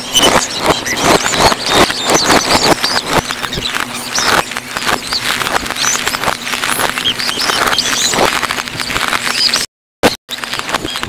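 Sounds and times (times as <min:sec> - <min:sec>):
short squeaky chirps: 0:00.0 - 0:09.7, 0:10.3 - 0:11.0
reversed fireworks pops and crackles: 0:00.0 - 0:11.0.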